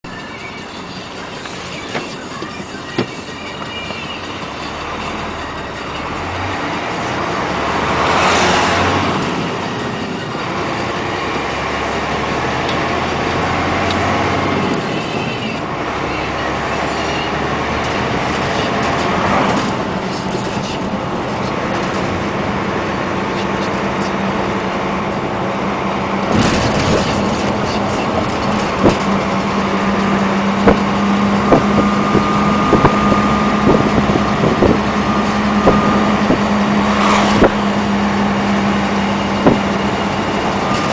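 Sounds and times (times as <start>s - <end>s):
heavy trucks passing: 0.0s - 40.9s
steady engine drone: 0.0s - 40.9s.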